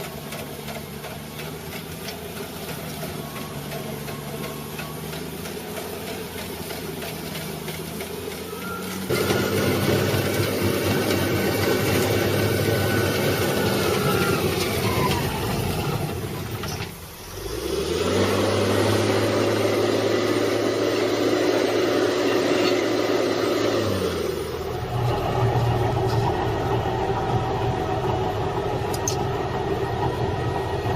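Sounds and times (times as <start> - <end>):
machine engine running: 0.0 - 30.9.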